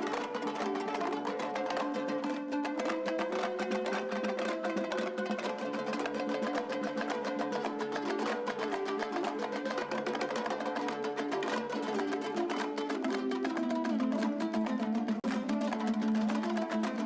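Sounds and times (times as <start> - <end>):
rapidly plucked string instrument: 0.0 - 17.0.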